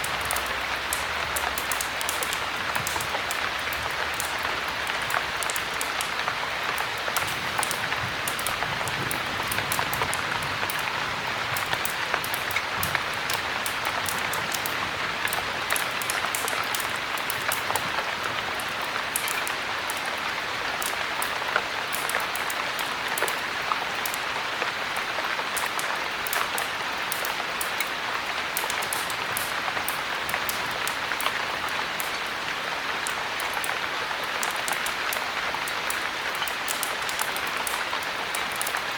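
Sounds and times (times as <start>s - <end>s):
heavy rain: 0.0s - 38.9s
wood fire crackling: 0.0s - 38.9s.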